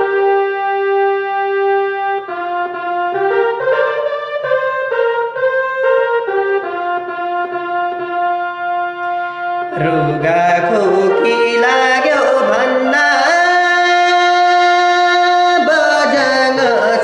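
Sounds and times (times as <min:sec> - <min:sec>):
harmonium melody: 0:00.0 - 0:17.0.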